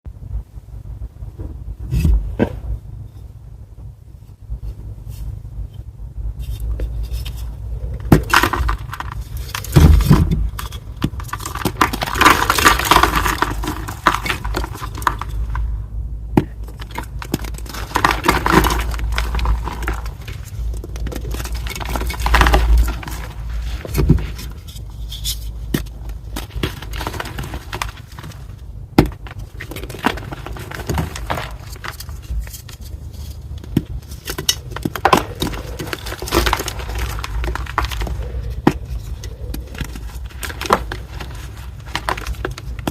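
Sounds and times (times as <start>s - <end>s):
chalk block crunching: 6.4s - 15.7s, 16.4s - 42.9s.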